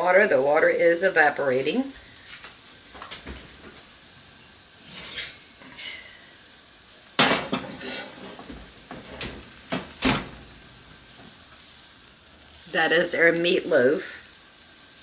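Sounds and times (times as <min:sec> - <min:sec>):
potatoes simmering in water: 0:00.0 - 0:15.0.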